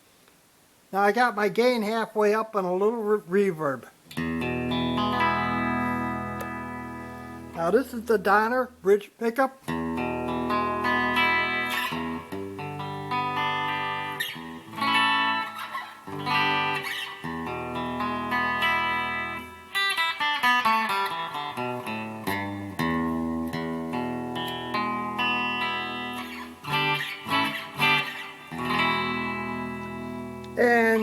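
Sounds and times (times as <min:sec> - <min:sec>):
clean electric guitar chords: 0:04.1 - 0:07.8, 0:09.7 - 0:31.0
electric guitar single notes: 0:04.1 - 0:08.8, 0:09.7 - 0:31.0.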